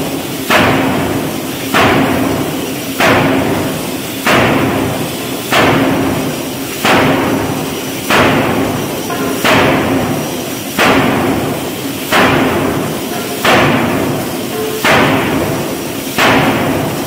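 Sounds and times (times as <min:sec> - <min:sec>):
steam hammer striking steel: 0:00.0 - 0:17.0.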